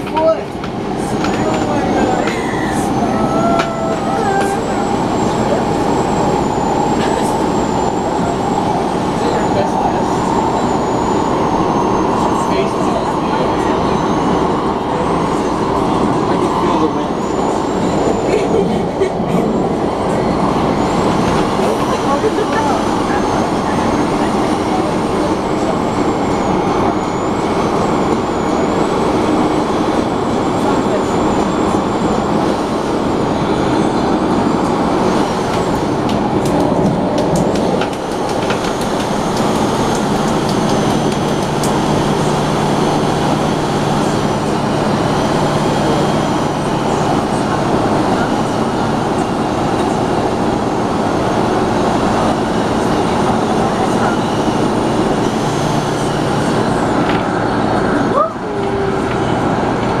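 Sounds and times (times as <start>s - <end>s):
train wheels rumbling: 0.0s - 60.0s.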